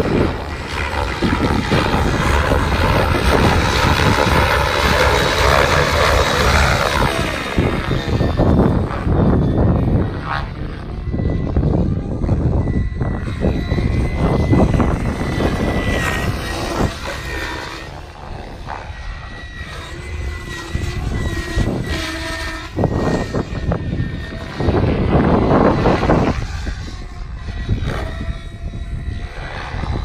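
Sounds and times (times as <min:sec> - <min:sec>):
rc helicopter motor whine: 0:00.0 - 0:30.0
rotors rushing: 0:00.0 - 0:30.0.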